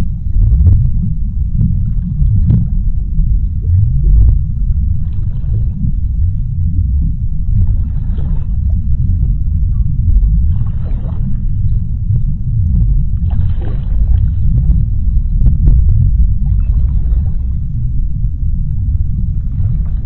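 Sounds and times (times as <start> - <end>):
bubbling: 0.0 - 20.0
deep underwater rumble: 0.0 - 20.0.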